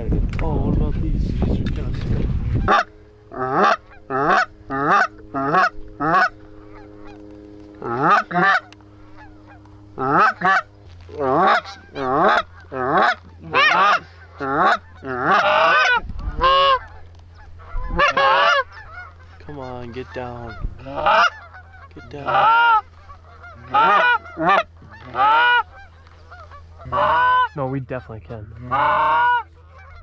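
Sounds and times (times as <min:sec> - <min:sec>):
geese honking: 0:02.6 - 0:30.0.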